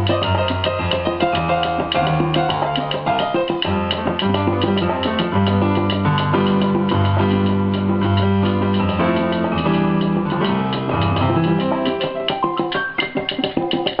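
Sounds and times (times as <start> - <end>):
live salsa band playing: 0.0 - 14.0.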